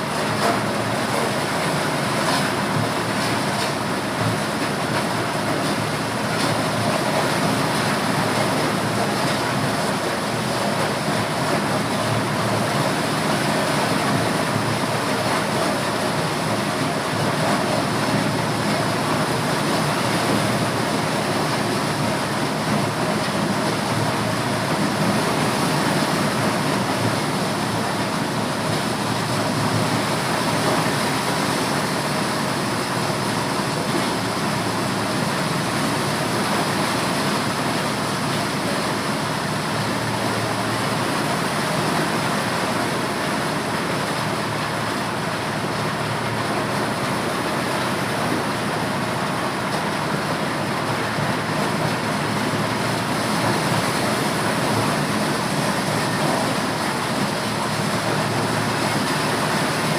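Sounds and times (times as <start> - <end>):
corn sheller machine running: 0.0 - 59.9.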